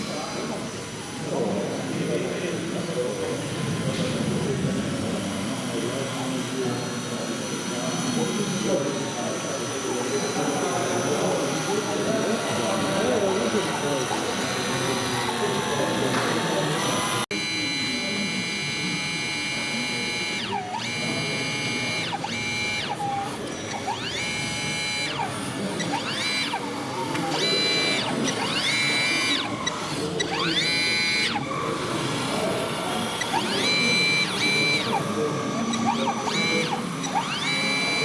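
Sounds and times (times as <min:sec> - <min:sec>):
murmur of voices: 0:00.0 - 0:38.0
small electric drive whining: 0:00.0 - 0:38.0.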